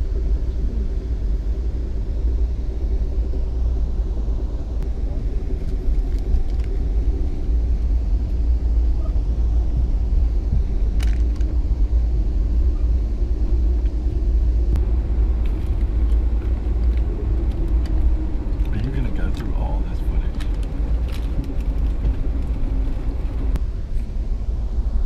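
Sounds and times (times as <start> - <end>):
train rumble from inside: 0.0 - 25.0.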